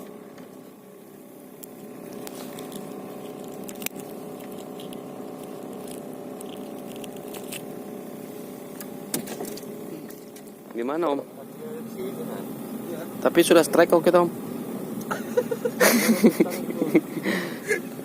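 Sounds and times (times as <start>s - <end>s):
motor drone: 0.0s - 18.0s.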